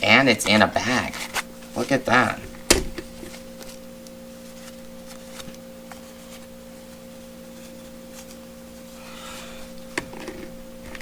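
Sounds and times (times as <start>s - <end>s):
steady pitched hum: 0.0s - 11.0s.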